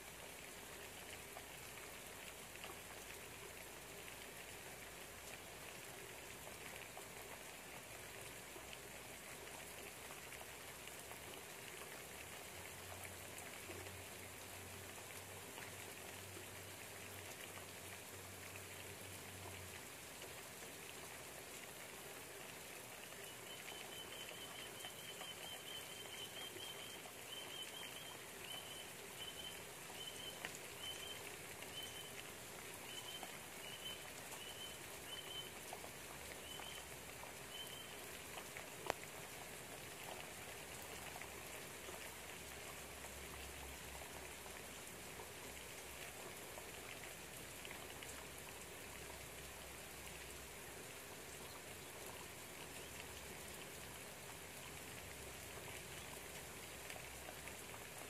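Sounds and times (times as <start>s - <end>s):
light rain patter: 0.0s - 58.0s.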